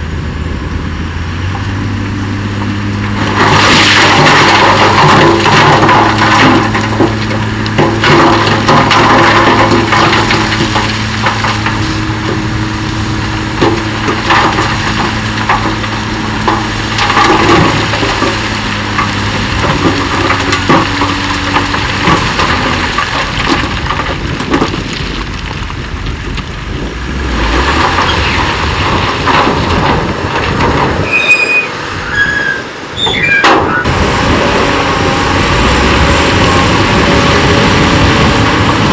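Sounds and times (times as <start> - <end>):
bulldozer engine running: 0.0 - 38.9
rock crunching and grinding: 1.5 - 38.9.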